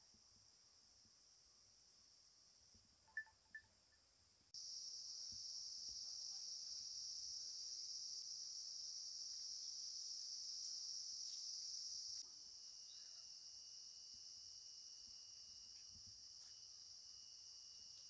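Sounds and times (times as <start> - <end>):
insects chorus in forest: 0.0 - 18.0.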